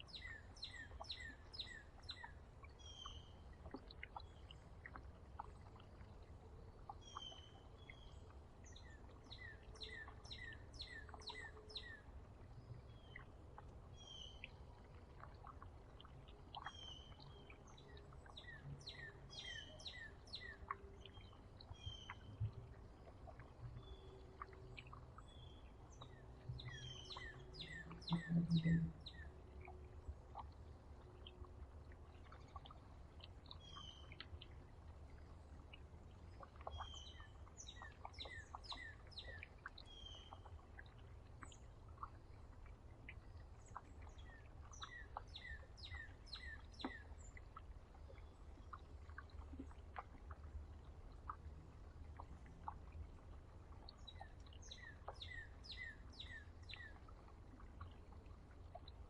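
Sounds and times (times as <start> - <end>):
faint low rumble: 0.0 - 59.0
songbirds chirping: 0.0 - 59.0.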